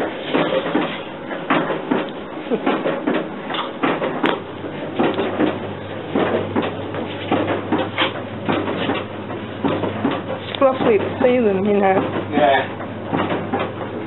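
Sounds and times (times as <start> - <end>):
kiddie ride mechanism clunking: 0.0 - 14.0
steady low hum: 0.0 - 14.0.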